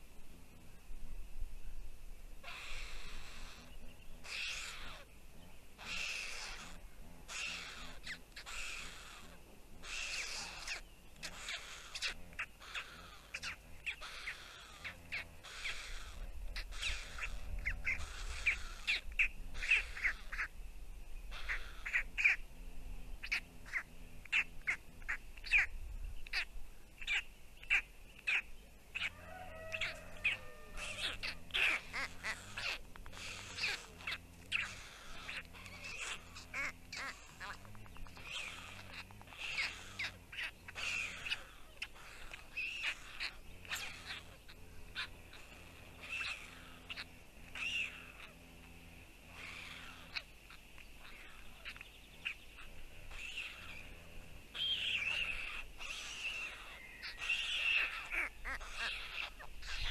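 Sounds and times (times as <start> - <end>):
harsh bird calls: 2.4 - 59.9.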